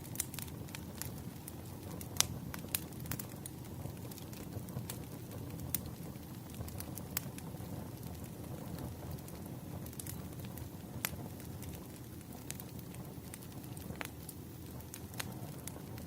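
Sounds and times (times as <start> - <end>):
burning logs crackling and popping: 0.0 - 16.0
flame rushing: 0.0 - 16.0.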